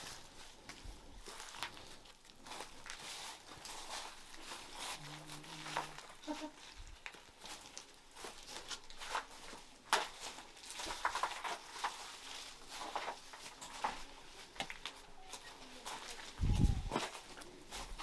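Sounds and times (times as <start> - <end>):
footsteps crunching on debris: 0.0 - 18.0.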